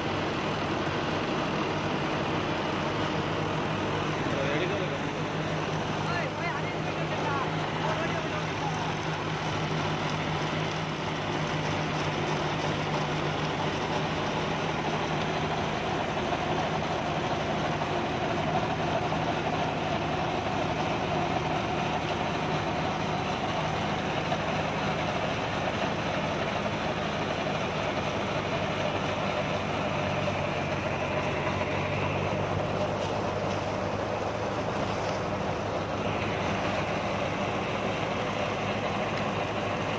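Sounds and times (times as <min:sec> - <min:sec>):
rotary tiller churning soil: 0:00.0 - 0:39.9
tractor diesel engine running: 0:00.0 - 0:39.9.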